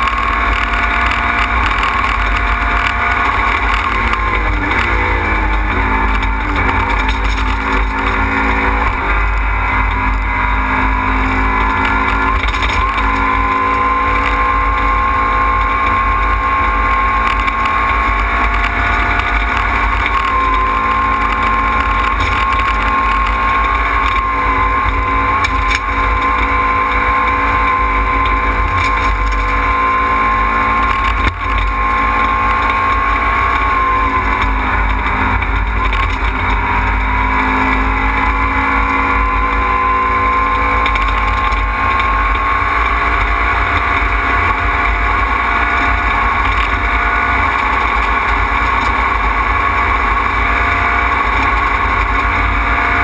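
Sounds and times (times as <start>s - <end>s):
car engine revving high: 0.0s - 53.0s.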